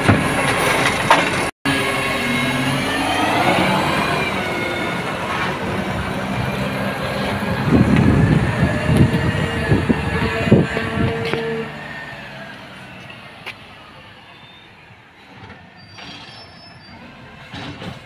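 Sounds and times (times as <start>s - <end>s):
garbage truck diesel engine driving past: 0.0s - 18.0s.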